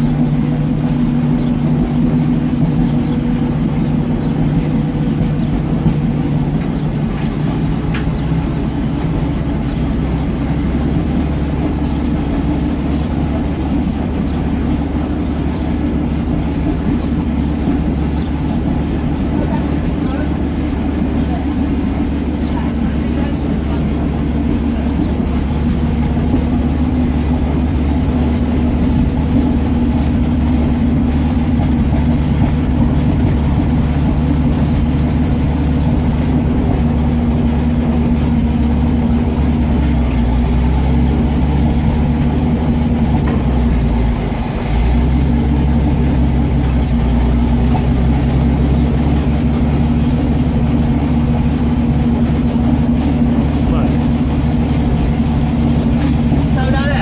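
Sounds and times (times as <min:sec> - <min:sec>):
tank engine idling: 0:00.0 - 0:57.0.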